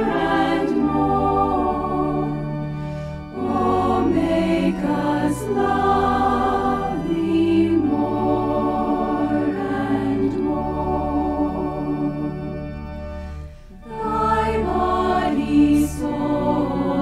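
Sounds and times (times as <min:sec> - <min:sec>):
choir singing slow chords: 0:00.0 - 0:17.0.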